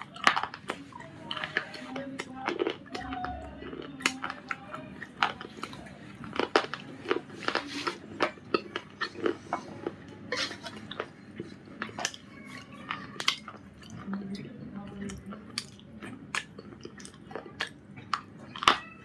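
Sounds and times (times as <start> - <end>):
crunching biscuit: 0.0 - 14.1, 15.1 - 19.0.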